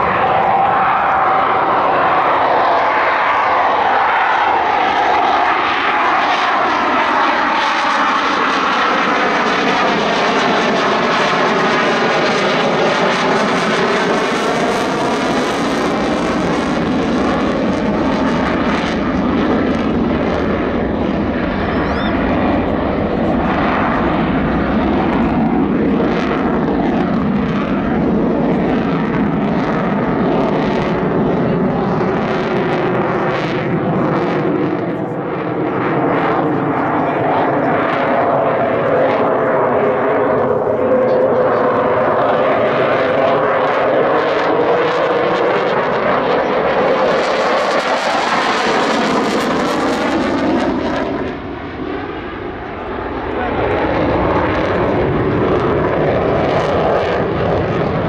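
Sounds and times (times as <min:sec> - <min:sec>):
fighter jet afterburner roar: 0:00.0 - 0:58.0.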